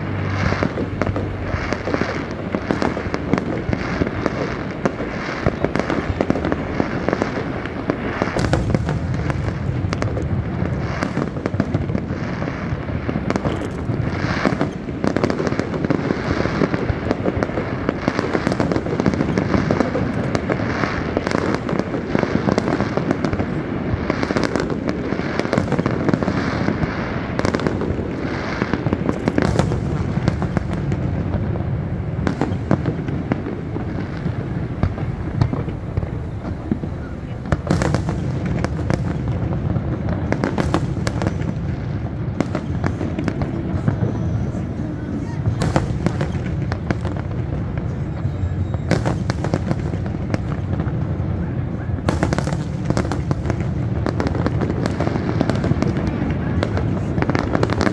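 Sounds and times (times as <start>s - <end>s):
fireworks bursting and crackling: 0.0s - 57.9s.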